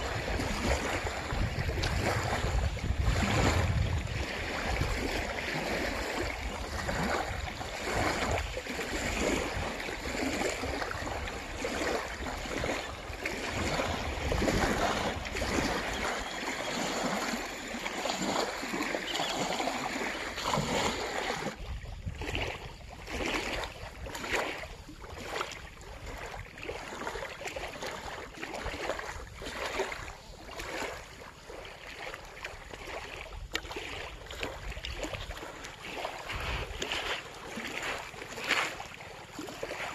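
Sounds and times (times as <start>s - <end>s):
wind rumbling on microphone: 0.0s - 27.2s, 32.8s - 38.2s
small waves lapping on gravel: 0.0s - 39.9s.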